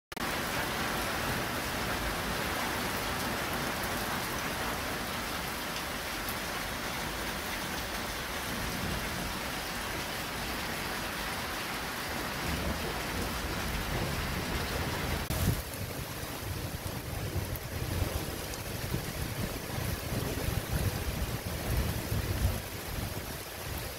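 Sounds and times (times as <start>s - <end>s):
heavy rain on paving and plants: 0.1s - 23.9s.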